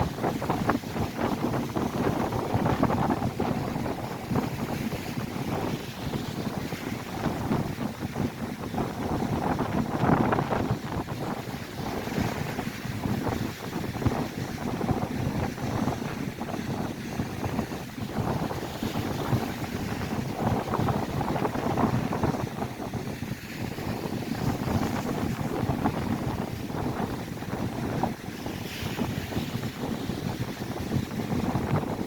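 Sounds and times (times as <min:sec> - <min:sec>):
gusty wind on microphone: 0:00.0 - 0:32.0
lake waves breaking on shore: 0:00.0 - 0:32.0.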